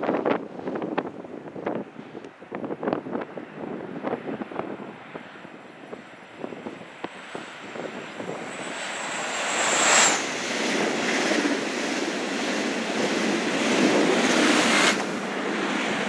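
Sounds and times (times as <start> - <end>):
high whine of train: 0.0 - 16.0
train passing at speed: 0.0 - 16.0
wind buffeting microphone: 0.0 - 16.0.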